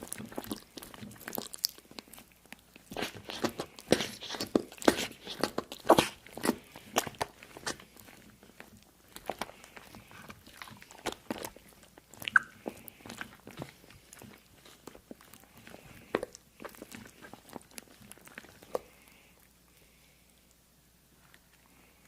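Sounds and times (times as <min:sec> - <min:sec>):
crisp crunching: 0:00.0 - 0:19.0.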